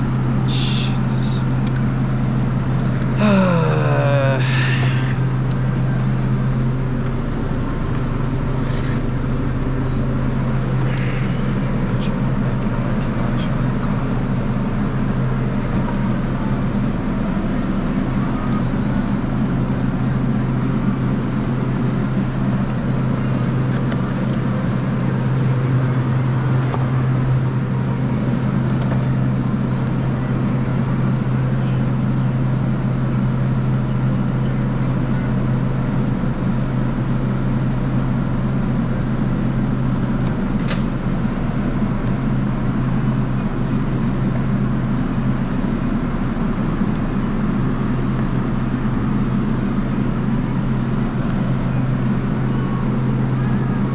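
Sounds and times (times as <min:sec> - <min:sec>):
refrigeration machinery humming: 0:00.0 - 0:53.9.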